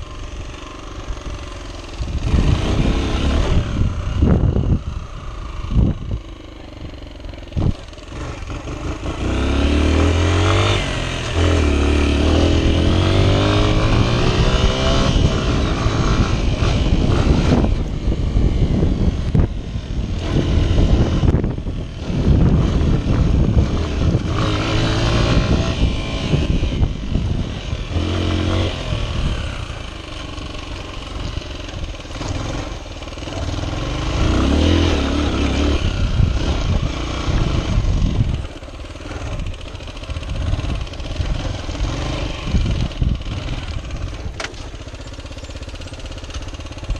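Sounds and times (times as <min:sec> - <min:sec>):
wind noise: 0:00.0 - 0:45.1
motorcycle engine revving: 0:00.0 - 0:46.9.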